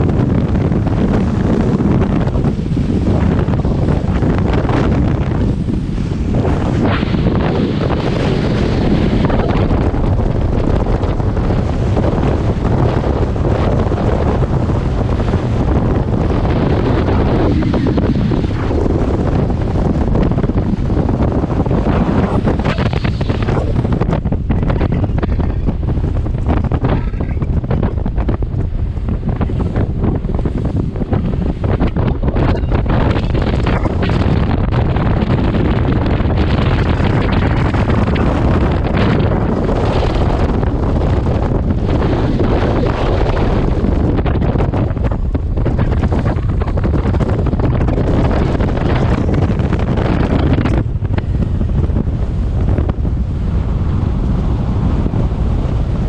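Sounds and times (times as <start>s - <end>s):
boat engine and water rushing: 0.0s - 56.0s
speedboat running: 0.0s - 56.0s
wind buffeting microphone: 0.0s - 56.0s.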